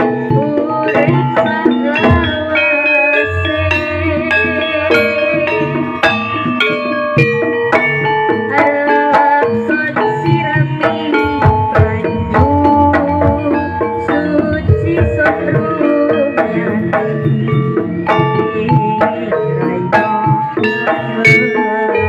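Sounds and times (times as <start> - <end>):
hand drums fast rhythm: 0.0 - 22.0
melody of held notes: 0.0 - 22.0.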